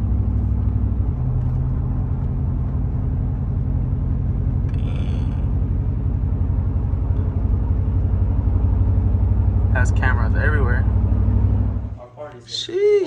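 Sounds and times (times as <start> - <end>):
engine and road noise in cab: 0.0 - 12.0.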